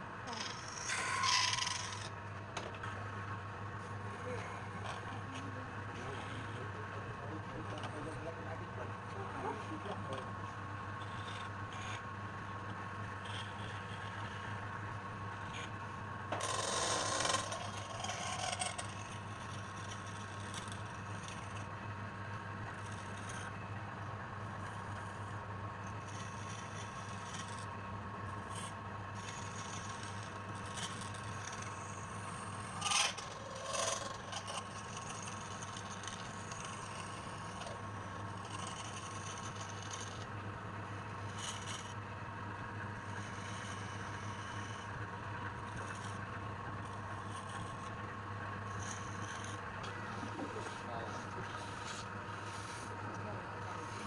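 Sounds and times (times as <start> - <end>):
tool rasping on spinning wood: 0.0 - 2.2, 4.2 - 54.0
wood lathe humming: 9.5 - 54.0.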